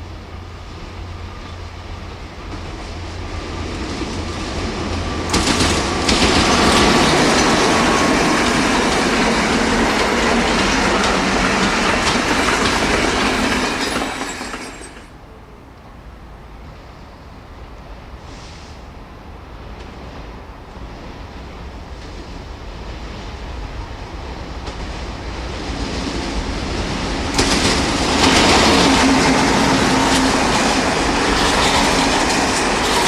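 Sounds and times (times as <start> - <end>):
freight train passing: 0.0 - 33.0.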